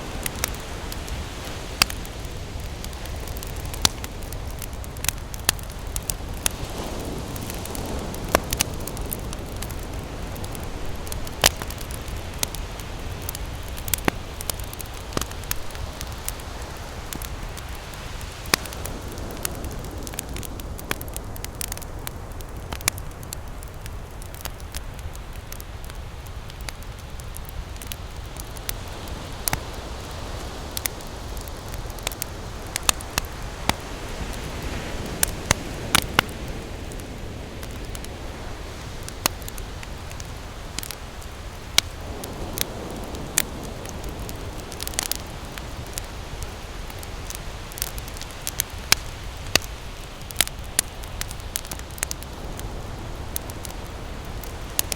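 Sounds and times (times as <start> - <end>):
campfire crackling and popping: 0.0 - 54.9
ocean surf rumble: 0.0 - 54.9.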